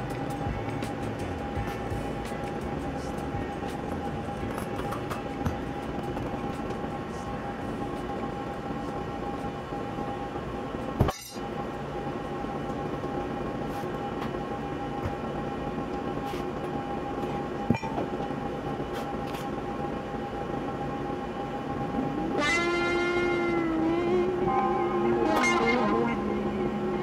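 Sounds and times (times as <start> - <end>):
machine whining: 0.0 - 27.0.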